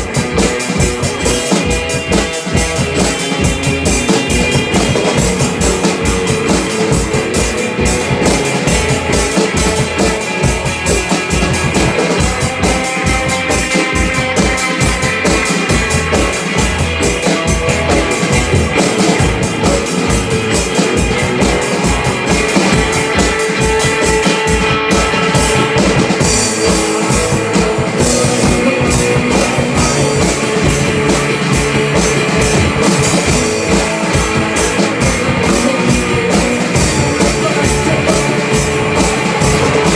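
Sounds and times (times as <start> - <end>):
bass drum beat: 0.0 - 39.9
instrumental rock music: 0.0 - 39.9
sustained guitar: 0.0 - 39.9.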